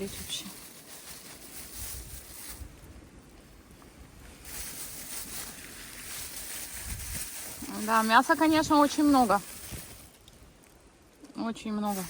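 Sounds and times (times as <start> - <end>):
wind buffeting microphone: 1.4 - 11.2.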